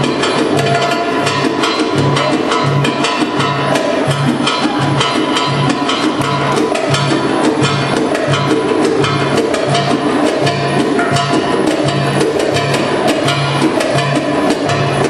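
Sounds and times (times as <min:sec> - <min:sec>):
sharp drum strokes: 0:00.0 - 0:15.0.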